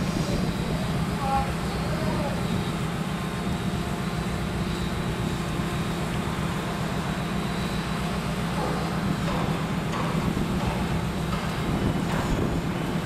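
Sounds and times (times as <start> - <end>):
crane machinery droning: 0.0 - 13.0.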